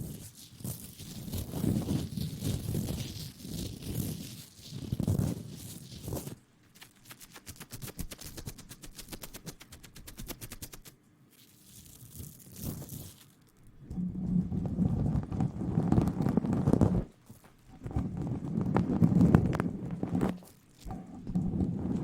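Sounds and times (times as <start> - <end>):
rubbing against microphone: 0.0 - 22.0
rustling: 0.0 - 22.0.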